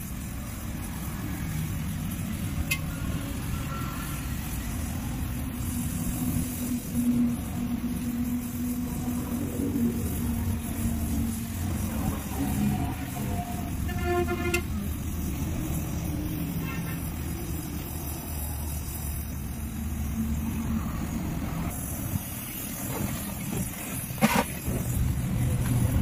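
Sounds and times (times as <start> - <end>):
welding torch flame rushing: 3.3 - 26.0.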